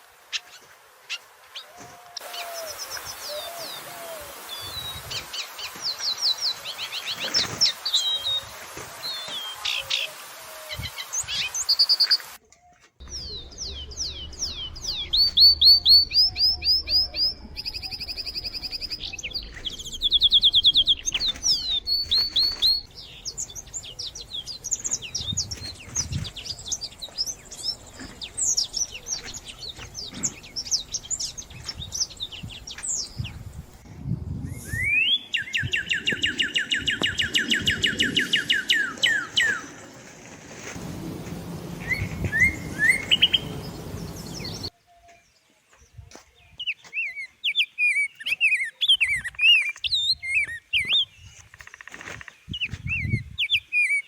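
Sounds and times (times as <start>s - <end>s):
songbirds singing: 0.3s - 54.0s.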